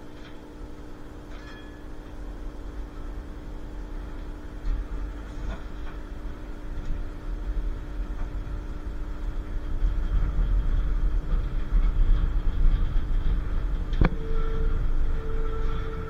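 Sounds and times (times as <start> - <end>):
constant hum: 0.0 - 16.0
tram rumbling on tracks: 0.0 - 16.0.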